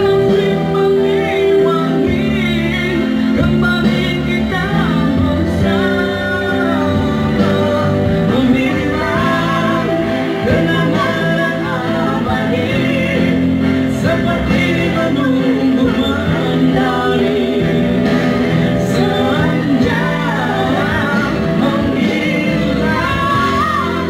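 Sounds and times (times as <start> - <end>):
man singing into a microphone: 0.0 - 24.0
pop backing track: 0.0 - 24.0.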